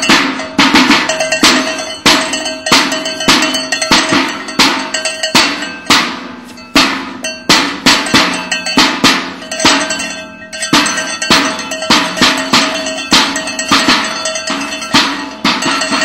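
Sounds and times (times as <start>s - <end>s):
metal clanging: 0.0s - 16.0s.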